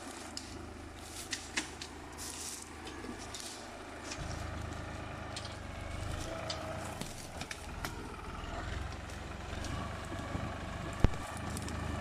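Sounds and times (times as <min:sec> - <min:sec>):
tractor engine throbbing: 0:00.0 - 0:12.0.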